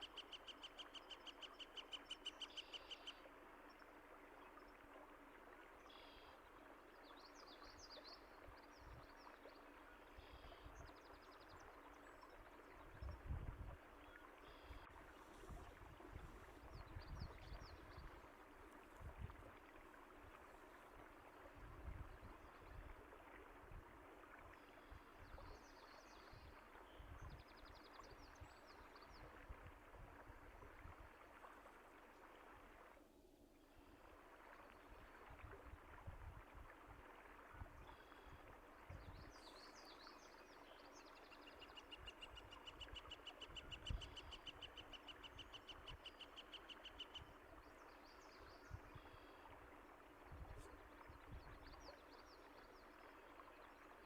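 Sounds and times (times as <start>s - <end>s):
faint running water: 0.0s - 54.0s.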